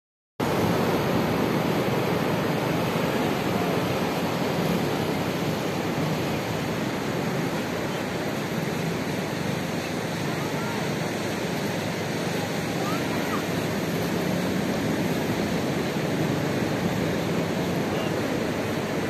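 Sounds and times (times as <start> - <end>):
surf washing up beach: 0.4 - 19.0.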